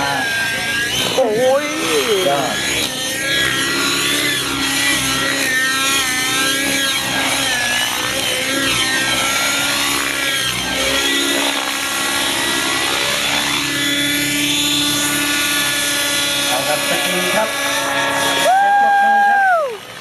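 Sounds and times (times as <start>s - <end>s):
model helicopter engine whine: 0.0s - 20.0s.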